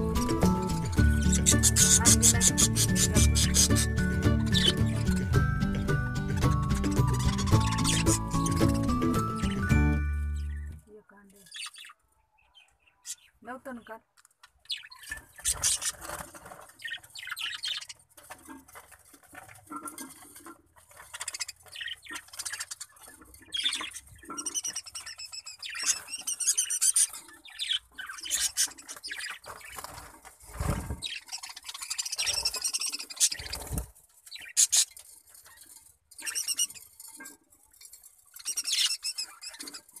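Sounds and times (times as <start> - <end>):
lovebirds chirping and squawking: 0.0 - 40.0.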